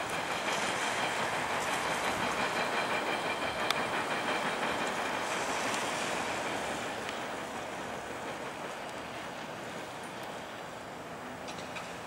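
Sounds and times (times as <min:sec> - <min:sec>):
subway train wheels on rails: 0:00.0 - 0:12.0.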